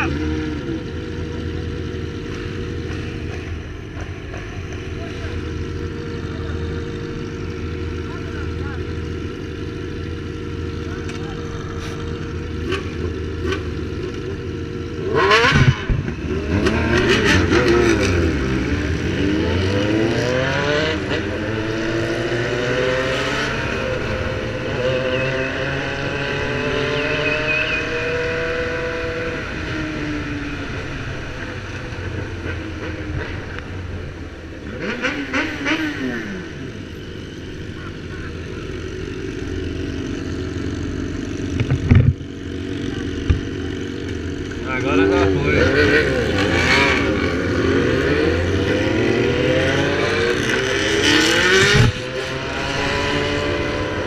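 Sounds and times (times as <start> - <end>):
motorcycle accelerating through gears: 0.0 - 54.0
motorcycle engines revving: 0.0 - 54.0.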